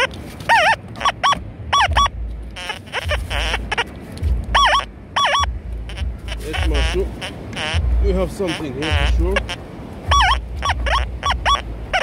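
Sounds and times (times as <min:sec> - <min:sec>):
metal detector warbling beeps: 0:00.0 - 0:03.8, 0:04.5 - 0:07.8, 0:08.5 - 0:12.0
low rumble: 0:01.4 - 0:12.0.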